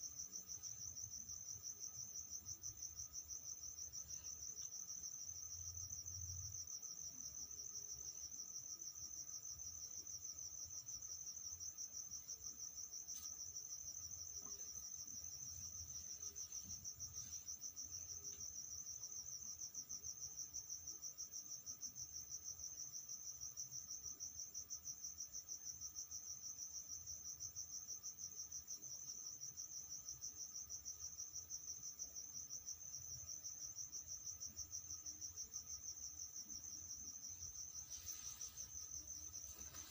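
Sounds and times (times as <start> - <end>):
cricket chirping trill: 0.0 - 39.9.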